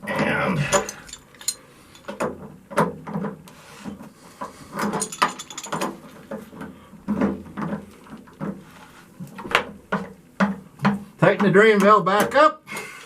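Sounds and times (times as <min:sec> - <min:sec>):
drain valve clicking and scraping: 0:00.2 - 0:12.3.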